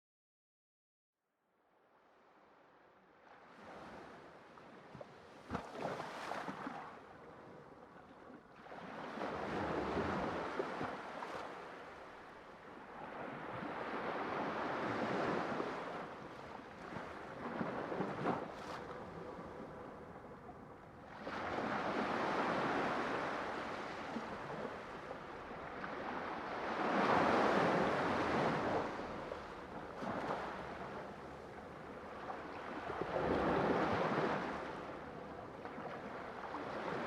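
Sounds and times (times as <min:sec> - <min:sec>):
sea waves breaking on shore: 0:03.2 - 0:07.1, 0:08.6 - 0:37.0.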